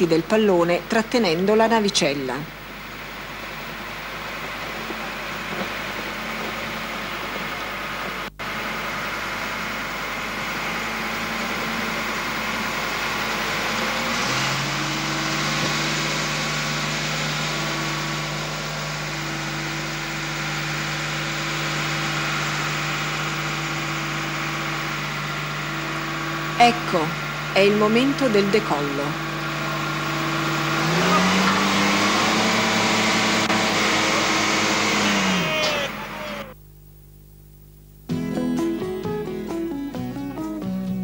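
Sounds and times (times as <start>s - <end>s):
vehicle engine running: 0.0s - 36.6s.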